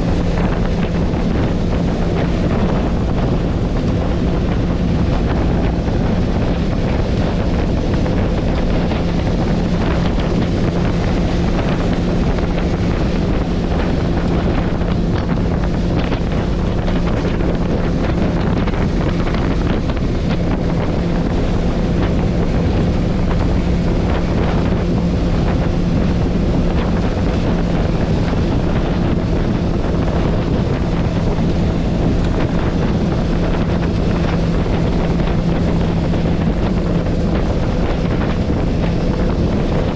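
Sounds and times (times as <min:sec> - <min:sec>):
outboard engine droning: 0:00.0 - 0:39.9
wind blasting microphone: 0:00.0 - 0:39.9.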